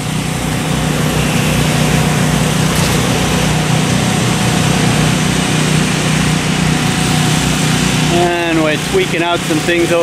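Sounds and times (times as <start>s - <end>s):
broad rushing noise: 0.0s - 10.0s
vehicle engine running: 0.0s - 10.0s.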